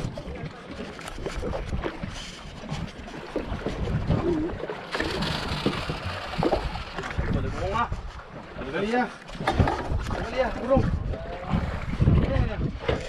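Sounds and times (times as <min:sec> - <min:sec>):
wind buffeting microphone: 0:00.0 - 0:08.7, 0:09.3 - 0:13.0
water lapping against boat: 0:00.0 - 0:13.0.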